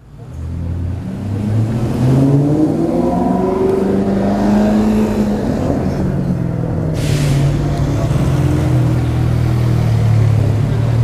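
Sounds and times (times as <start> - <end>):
car engine accelerating: 0.2 - 11.0.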